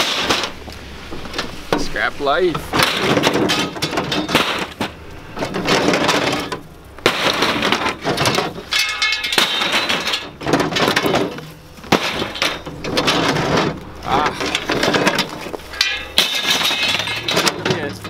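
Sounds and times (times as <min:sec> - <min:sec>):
scrap metal clanking and scraping: 0:00.0 - 0:18.0.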